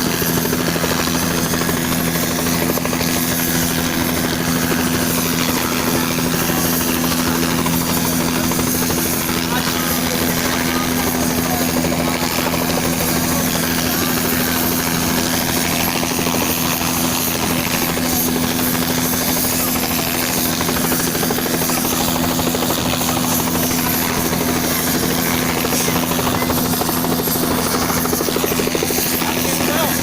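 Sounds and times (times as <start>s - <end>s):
helicopter running: 0.0s - 30.0s.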